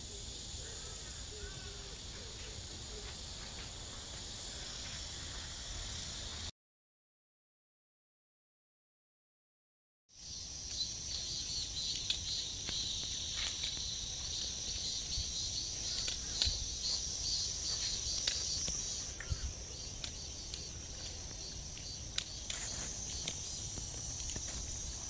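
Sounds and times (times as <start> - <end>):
insects chirring: 0.0 - 6.5, 10.1 - 25.0.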